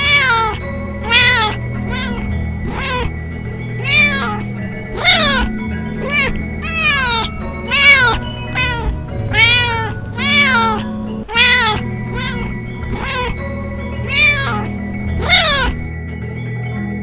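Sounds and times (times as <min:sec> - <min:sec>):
alarm of cat meows: 0:00.0 - 0:15.8
steady held background tones: 0:00.6 - 0:17.0.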